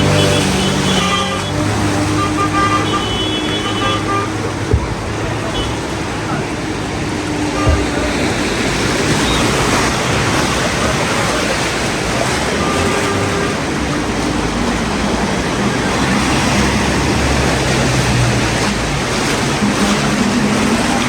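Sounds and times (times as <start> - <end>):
heavy rain: 0.0 - 21.0
traffic on wet road: 0.0 - 21.0.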